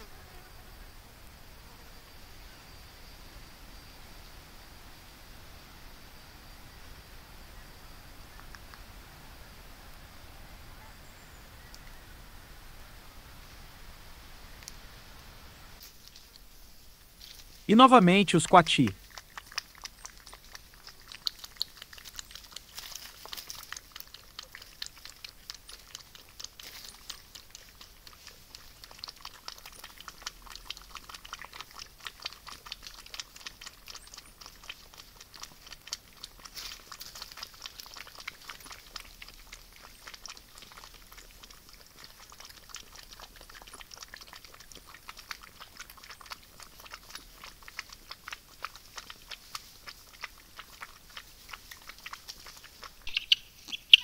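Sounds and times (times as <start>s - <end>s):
animals lapping water: 4.4s - 54.0s.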